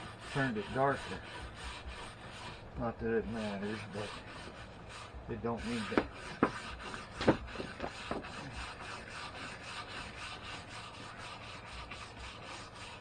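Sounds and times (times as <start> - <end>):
wire brush scraping wood: 0.0 - 13.0.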